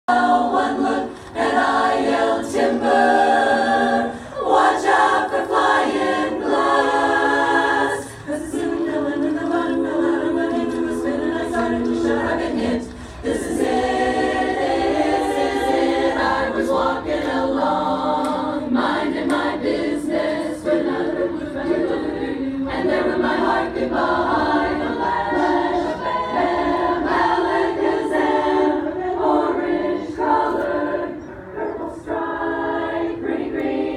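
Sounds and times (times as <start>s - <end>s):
choir singing a cappella: 0.0s - 33.9s.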